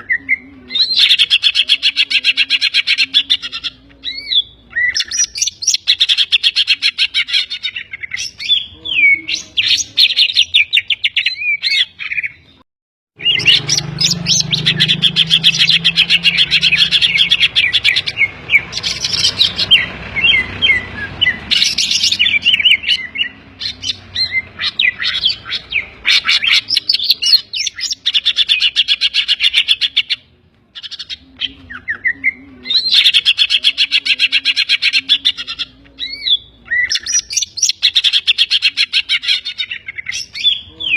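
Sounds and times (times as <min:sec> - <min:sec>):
bird singing chattering trills: 0:00.0 - 0:12.6, 0:13.2 - 0:40.9.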